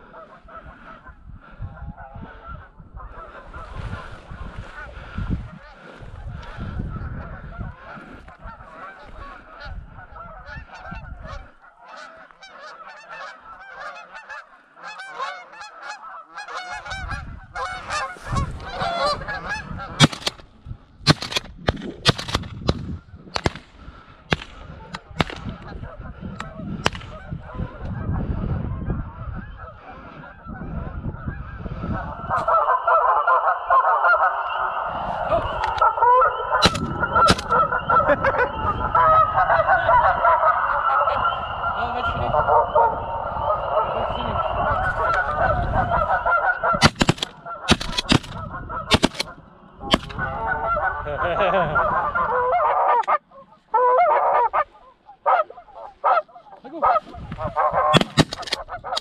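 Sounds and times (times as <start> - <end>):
geese honking: 0.0 - 20.4, 22.9 - 59.0.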